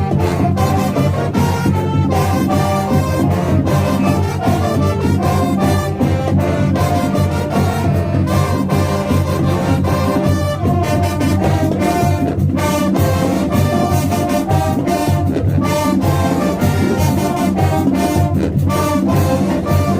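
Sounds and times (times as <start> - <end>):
brass section: 0.0 - 19.9
drumline beat: 0.0 - 19.9
marching band playing: 0.0 - 19.9.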